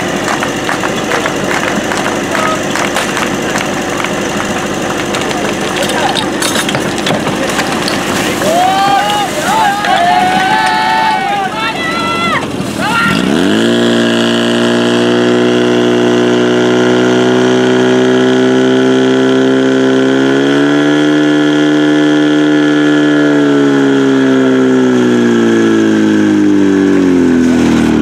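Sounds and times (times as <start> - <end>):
fire pump engine running at high revs: 0.0 - 28.0.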